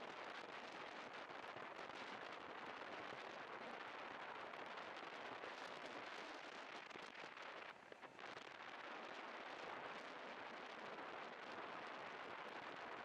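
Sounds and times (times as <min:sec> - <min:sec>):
wind crackling over microphone: 0:00.1 - 0:13.0.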